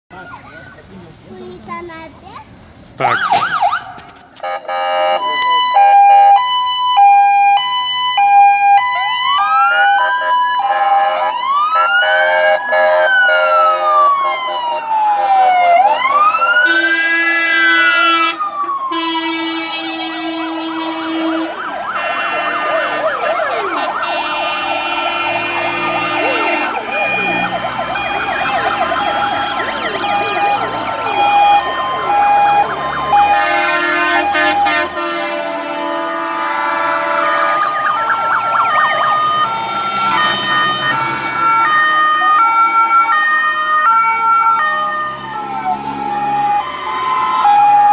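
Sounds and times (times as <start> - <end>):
heavy truck engines rumbling: 0.1 - 47.9
wailing sirens: 3.0 - 47.9
two-tone hi-lo siren: 3.1 - 47.9.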